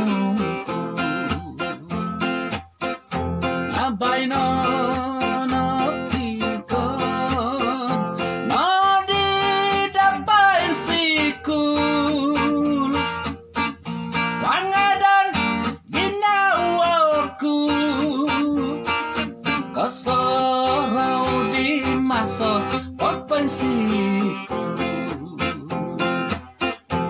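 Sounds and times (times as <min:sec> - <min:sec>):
man singing: 0:00.0 - 0:02.1, 0:03.6 - 0:26.4
strummed acoustic guitar: 0:00.0 - 0:27.0.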